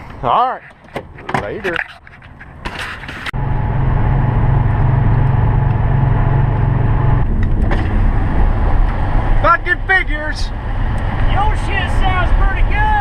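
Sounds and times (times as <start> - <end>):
vehicle engine with loud exhaust: 0.0 - 13.0.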